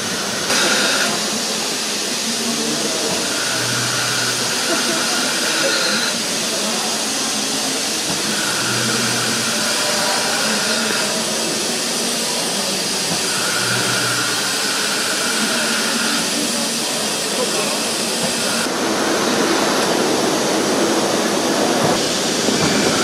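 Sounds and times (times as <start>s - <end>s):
steam hissing from locomotive: 0.0s - 23.0s.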